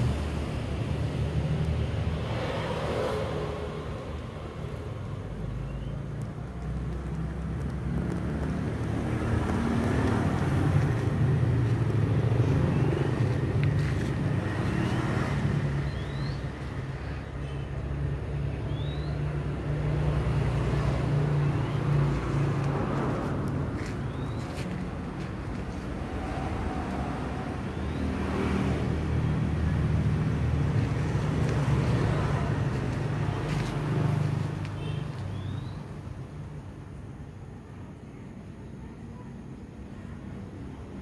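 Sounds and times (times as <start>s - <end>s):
motor traffic rumble: 0.0s - 41.0s.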